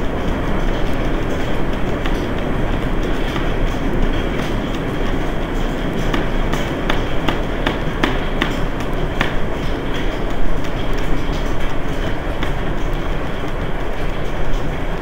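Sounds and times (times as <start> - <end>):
loud rumbling background noise: 0.0 - 15.0.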